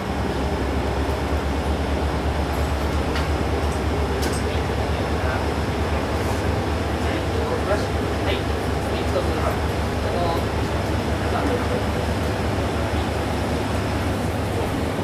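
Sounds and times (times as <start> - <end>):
diesel engine droning: 0.0 - 15.0
railcar running rumble: 0.0 - 15.0.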